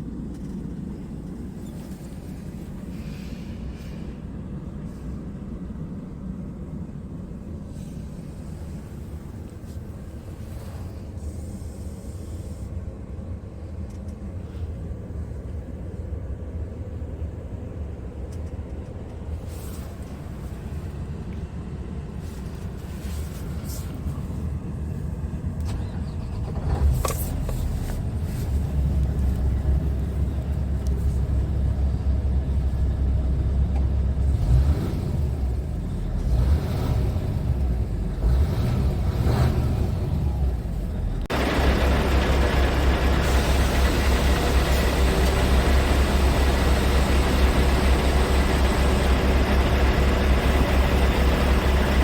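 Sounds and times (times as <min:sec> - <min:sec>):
diesel engine rumbling: 0:00.0 - 0:52.0.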